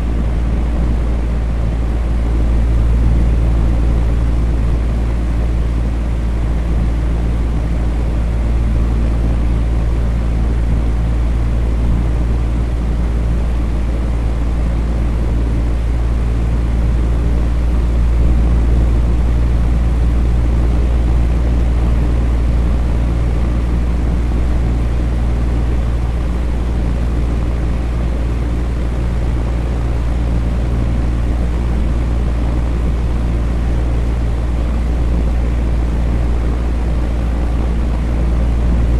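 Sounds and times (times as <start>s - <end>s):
electric fan whooshing and humming: 0.0s - 38.9s.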